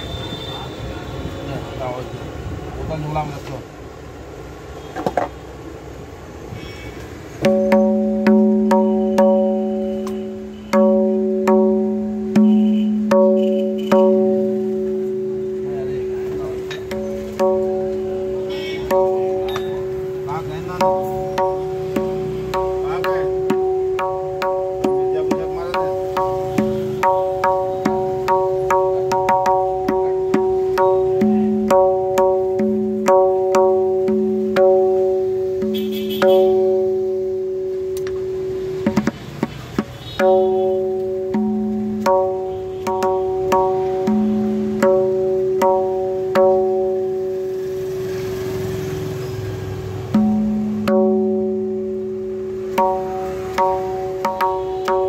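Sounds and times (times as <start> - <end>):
tabla drum strokes ringing: 7.1 - 55.0.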